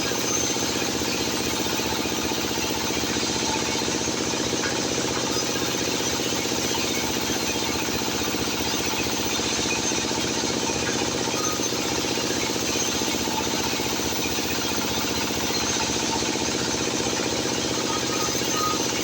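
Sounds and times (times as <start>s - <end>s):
sawmill machinery drone: 0.0s - 19.0s.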